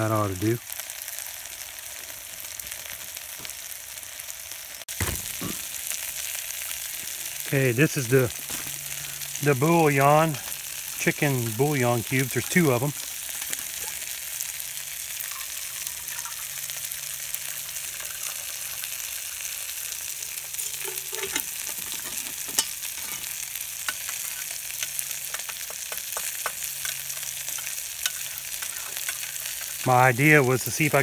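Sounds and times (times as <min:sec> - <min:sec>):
food sizzling in a pot: 0:00.0 - 0:31.0.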